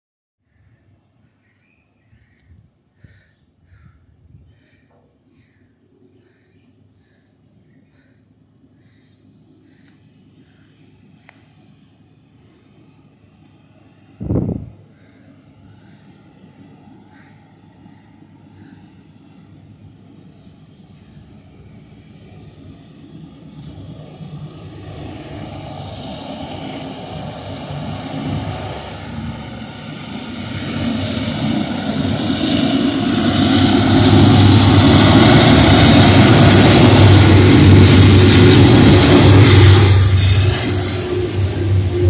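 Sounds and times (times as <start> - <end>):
diesel locomotive engine drone: 0.5 - 42.0.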